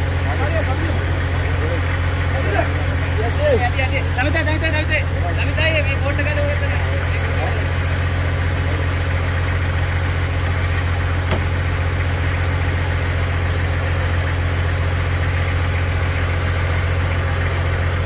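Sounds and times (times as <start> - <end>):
off-road vehicle engine idling: 0.0 - 18.0.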